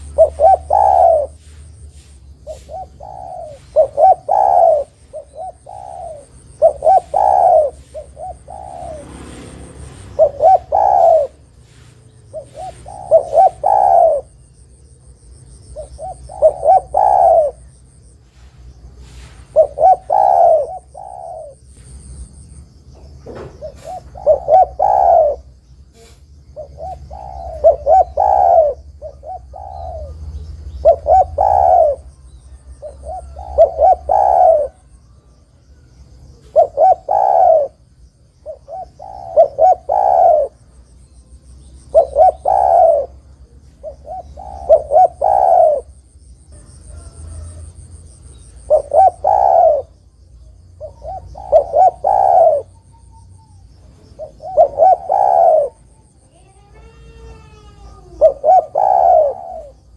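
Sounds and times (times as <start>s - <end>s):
dove cooing: 0.0s - 22.2s, 23.0s - 35.4s, 36.2s - 40.7s, 41.6s - 50.1s, 50.8s - 59.9s
faint high chirping: 0.0s - 59.9s.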